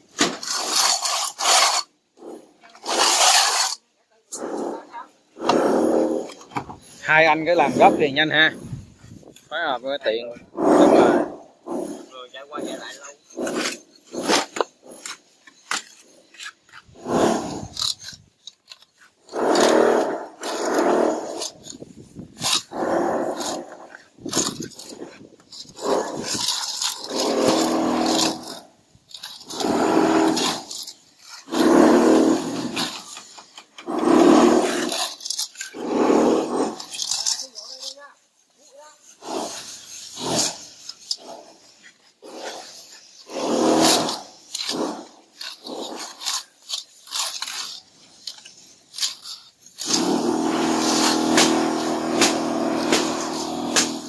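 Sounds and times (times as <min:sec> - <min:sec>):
trowel scraping plaster: 0:00.1 - 0:54.0.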